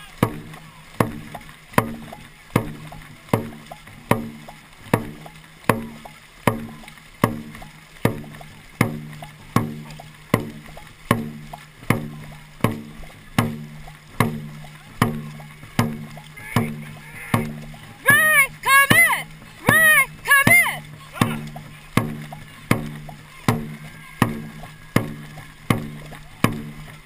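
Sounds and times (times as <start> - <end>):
drum beaten in steady rhythm: 0.0 - 27.0.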